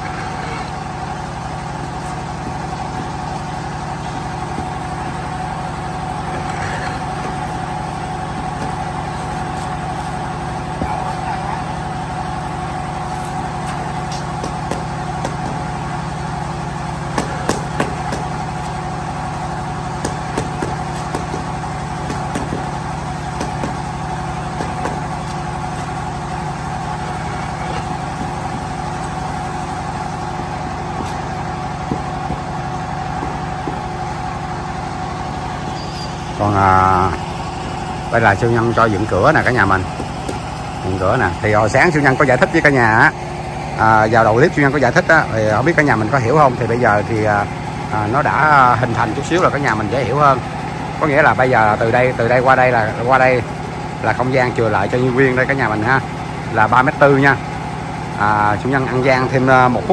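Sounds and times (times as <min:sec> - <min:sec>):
motor humming: 0:00.0 - 0:59.9.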